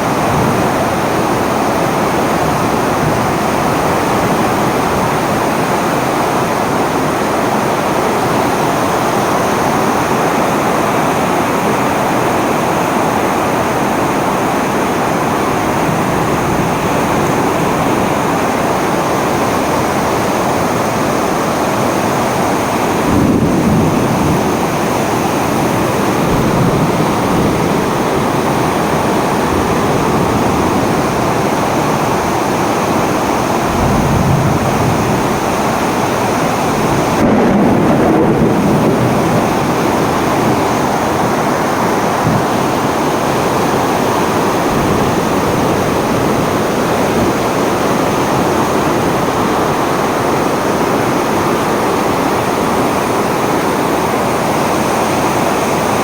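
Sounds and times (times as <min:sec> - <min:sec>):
heavy rain: 0:00.0 - 0:56.0
wind: 0:00.0 - 0:56.0.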